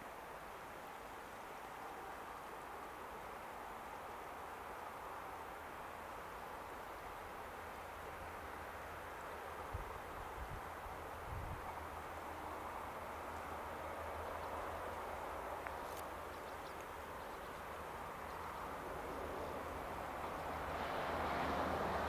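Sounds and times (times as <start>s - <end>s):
distant diesel train engines: 0.2s - 22.0s.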